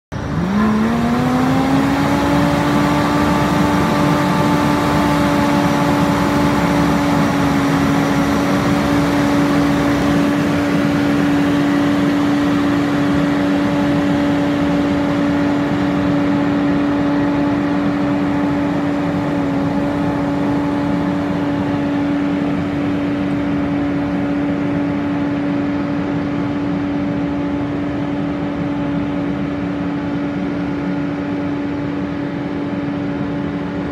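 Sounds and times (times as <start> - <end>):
sprayer fan whine: 0.1 - 33.9.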